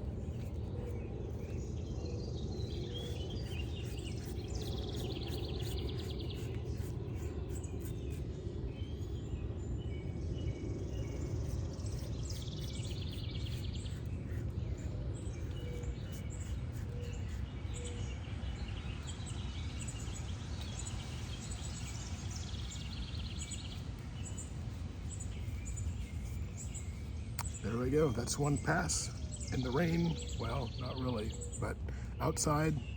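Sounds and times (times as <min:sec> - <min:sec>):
birds chirping and trilling: 0:00.0 - 0:32.9.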